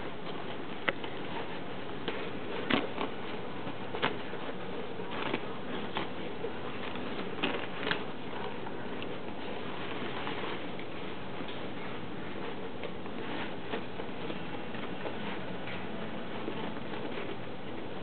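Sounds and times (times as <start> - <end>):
paper towel rustling and crinkling: 0.0 - 18.0.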